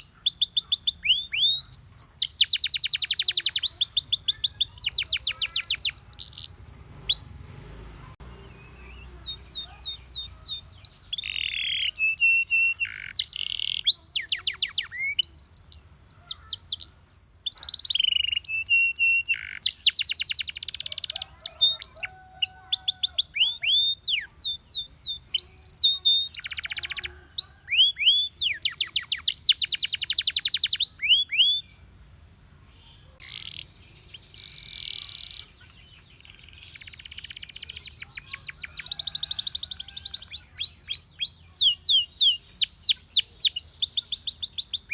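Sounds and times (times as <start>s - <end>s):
canary singing trills: 0.0s - 32.1s, 32.7s - 44.9s.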